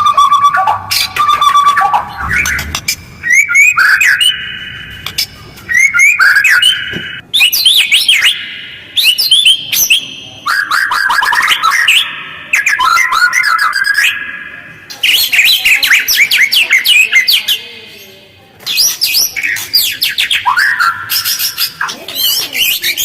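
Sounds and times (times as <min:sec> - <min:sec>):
bird singing whistles and chatters: 0:00.0 - 0:18.0, 0:18.6 - 0:23.0.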